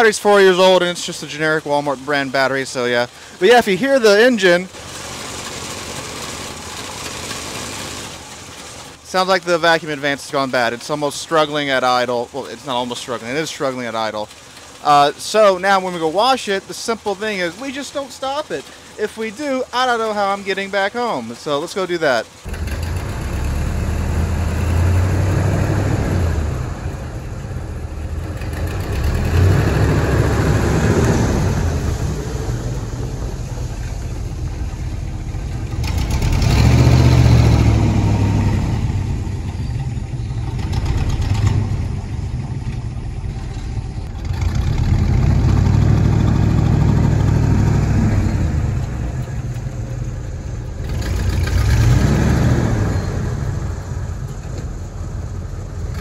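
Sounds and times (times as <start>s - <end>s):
pickup truck engine accelerating: 0.0s - 20.1s, 22.0s - 56.0s.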